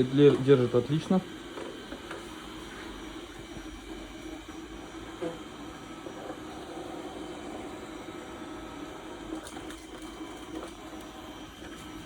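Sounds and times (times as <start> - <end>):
robot vacuum motor hum: 0.0 - 12.0.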